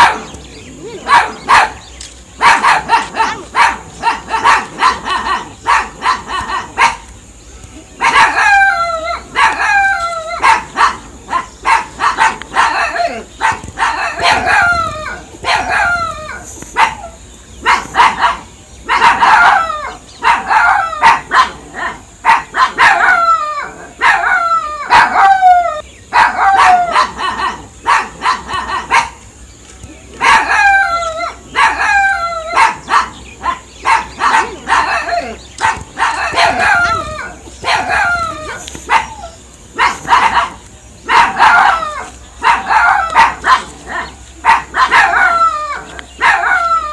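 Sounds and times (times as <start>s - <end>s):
dogs barking: 0.0s - 46.9s.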